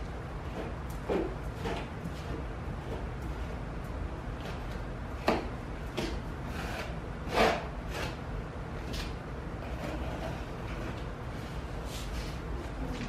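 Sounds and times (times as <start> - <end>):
steady low hum: 0.0 - 13.0
plastic scraper scraping wall: 0.4 - 11.1.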